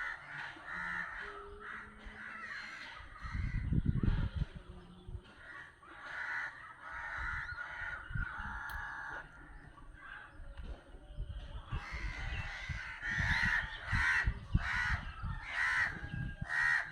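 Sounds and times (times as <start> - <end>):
birds squawking: 0.0 - 16.9.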